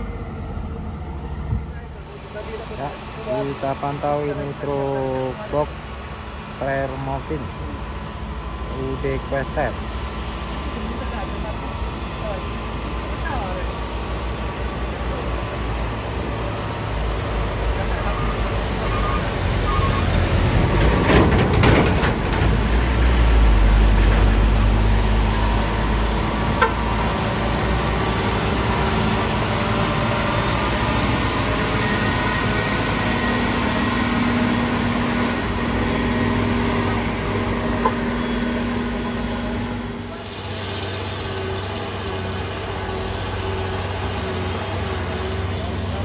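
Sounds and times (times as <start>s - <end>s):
truck diesel engine under load: 0.0s - 46.0s.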